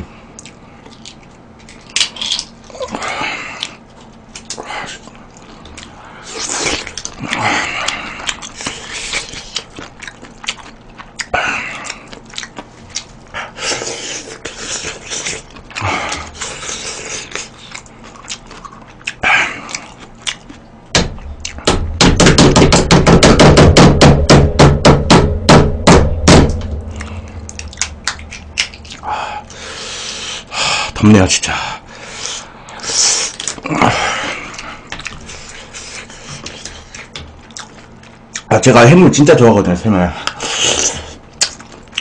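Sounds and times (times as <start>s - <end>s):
mouth noises eating: 0.0s - 21.7s, 26.9s - 31.0s, 31.8s - 38.5s, 40.2s - 42.0s.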